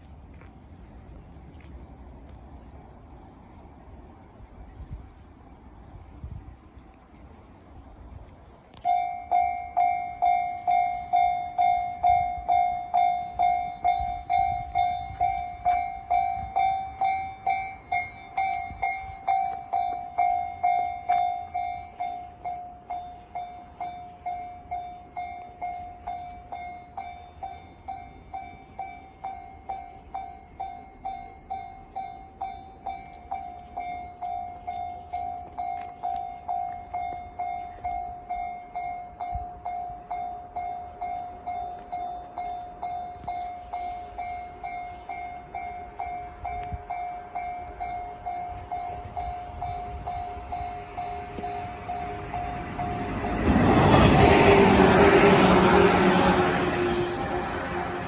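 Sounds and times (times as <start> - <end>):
level-crossing warning bell: 8.7 - 58.0.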